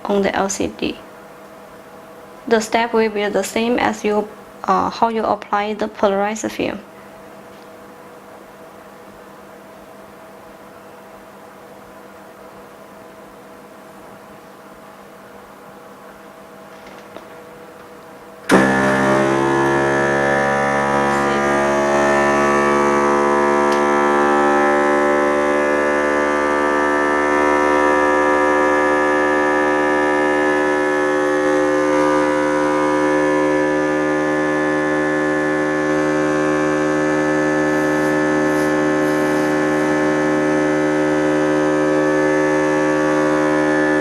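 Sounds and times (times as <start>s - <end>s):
laminating machine humming and whining: 6.6s - 44.0s.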